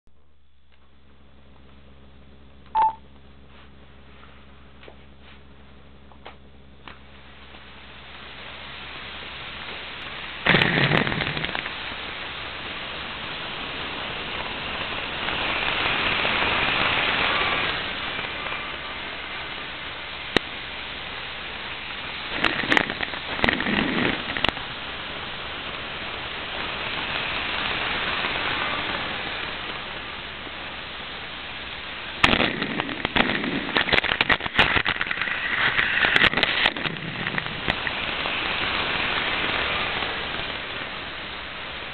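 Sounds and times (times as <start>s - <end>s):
model train hissing rumble: 7.2s - 41.9s.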